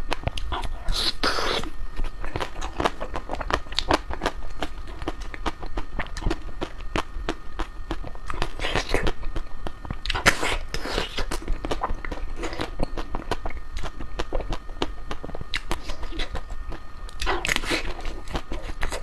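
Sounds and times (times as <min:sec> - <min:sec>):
chewing crispy ice cream: 0:00.0 - 0:19.0.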